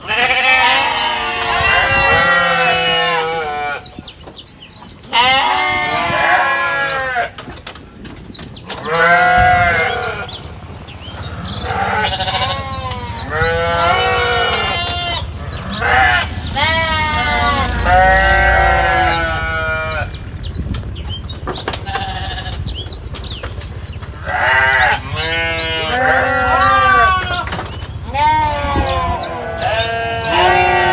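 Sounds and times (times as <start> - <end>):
farm animals bleating: 0.0 - 7.5, 8.6 - 30.9.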